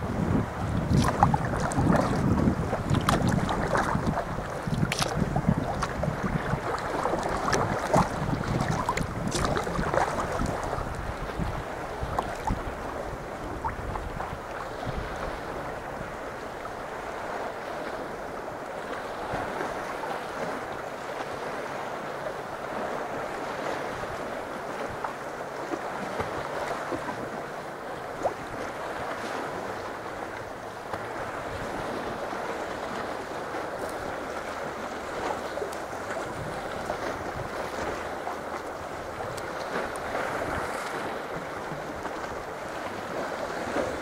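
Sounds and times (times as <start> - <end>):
wind on microphone: 0.0 - 20.8, 28.1 - 44.0
water lapping against kayak: 0.0 - 44.0
waves washing: 0.0 - 44.0.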